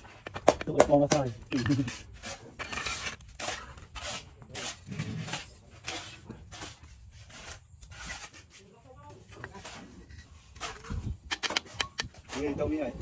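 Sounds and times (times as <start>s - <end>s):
trowel scraping on bricks: 0.0s - 13.0s.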